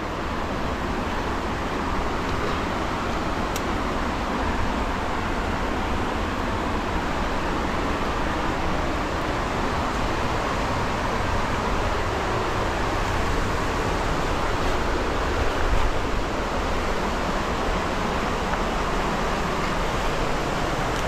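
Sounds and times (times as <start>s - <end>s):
river rapids over boulders: 0.0s - 21.0s.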